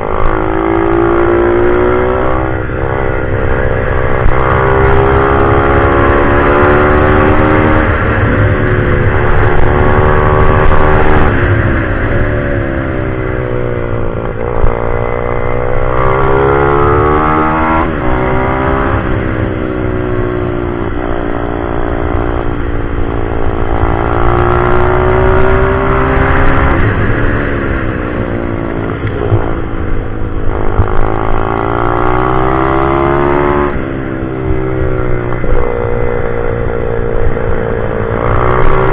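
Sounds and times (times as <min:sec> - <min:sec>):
motorbike engine revving hard: 0:00.0 - 0:12.8, 0:14.5 - 0:38.9.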